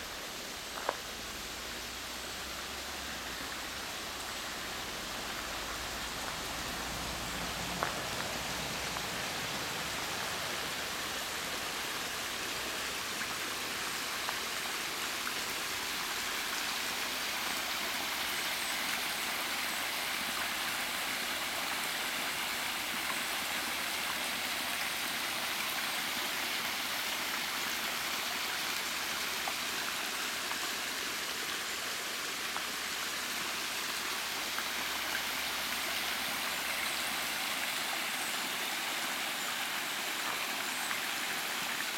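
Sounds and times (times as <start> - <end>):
stream and waterfall rushing: 0.0 - 41.9.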